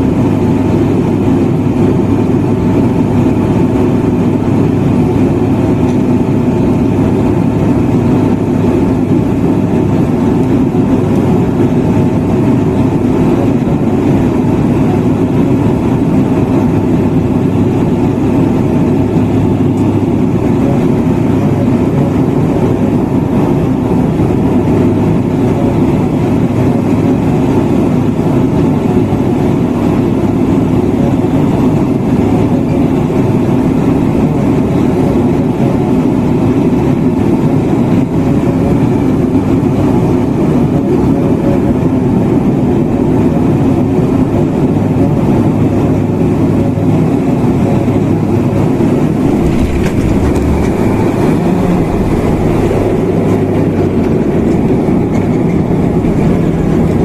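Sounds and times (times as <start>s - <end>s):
propeller engines droning: 0.0s - 57.0s
wheels rumbling on runway: 0.0s - 57.0s.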